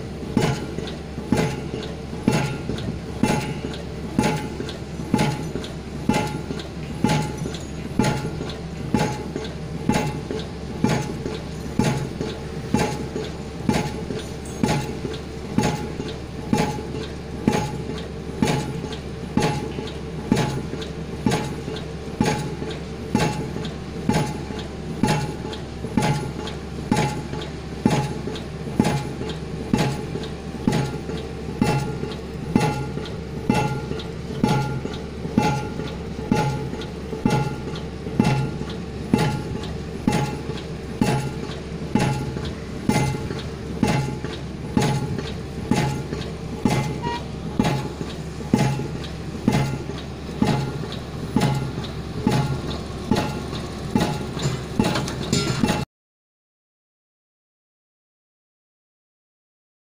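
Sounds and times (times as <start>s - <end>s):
pile driver hammer blows: 0.4s - 20.6s, 21.2s - 55.8s.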